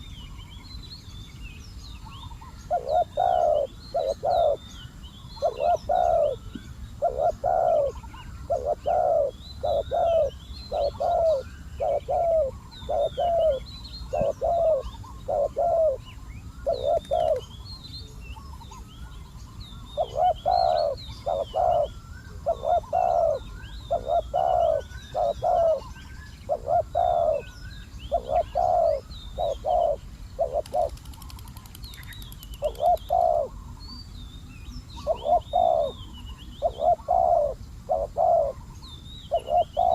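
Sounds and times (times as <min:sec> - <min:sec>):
small birds chirping: 0:00.0 - 0:39.9
doves cooing: 0:02.4 - 0:04.7, 0:05.4 - 0:16.0, 0:16.6 - 0:17.6, 0:20.0 - 0:33.8, 0:35.0 - 0:38.7, 0:39.3 - 0:39.9.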